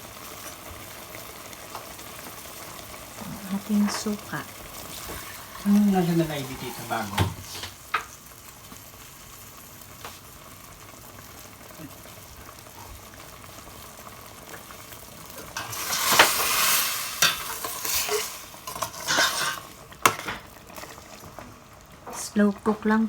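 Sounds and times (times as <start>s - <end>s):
food sizzling in a pot: 0.0s - 23.0s.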